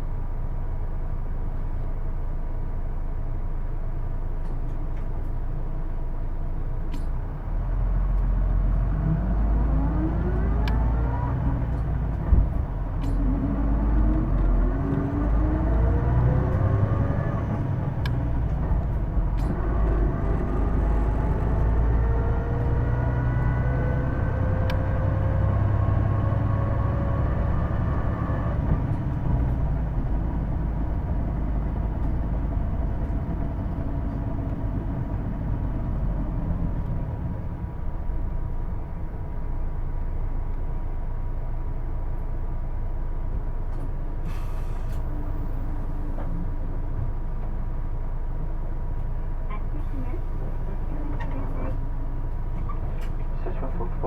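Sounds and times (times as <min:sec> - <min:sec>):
bus accelerating with whine: 0:00.0 - 0:54.0.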